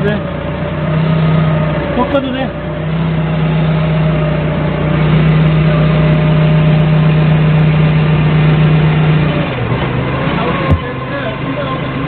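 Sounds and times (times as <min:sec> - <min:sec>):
forklift engine droning: 0:00.0 - 0:12.0.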